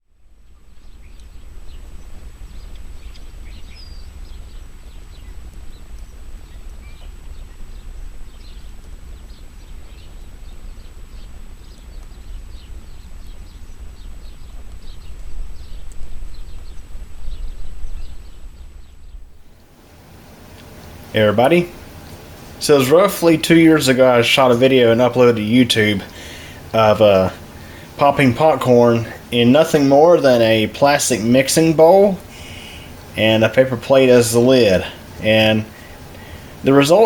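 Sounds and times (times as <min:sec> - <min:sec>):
birds chirping: 0:00.5 - 0:37.0.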